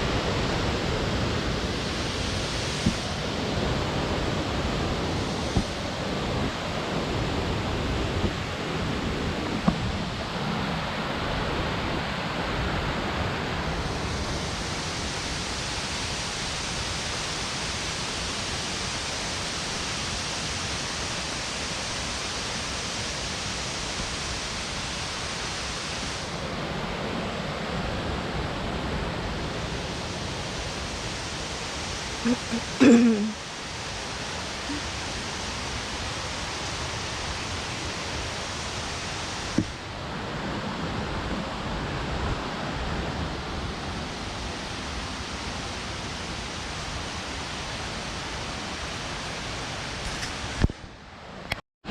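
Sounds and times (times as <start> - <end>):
waterfall roaring: 0.0 - 51.5.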